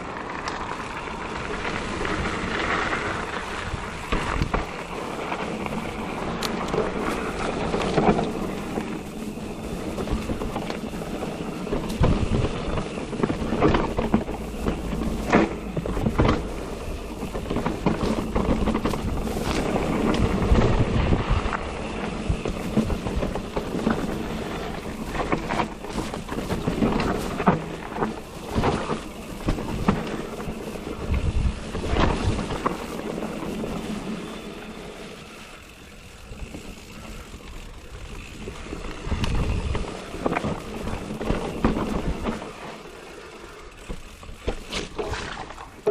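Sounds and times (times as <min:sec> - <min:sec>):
bike knocking and clattering: 0:00.0 - 0:45.9
tyre and wind noise: 0:00.0 - 0:45.9.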